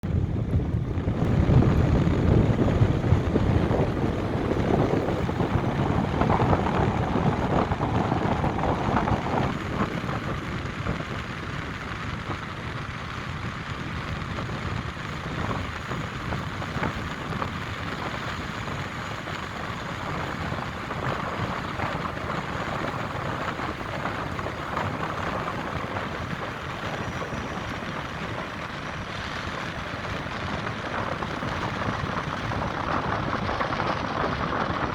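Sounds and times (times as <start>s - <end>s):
city traffic rumble: 0.0s - 34.9s
wind: 0.0s - 34.9s.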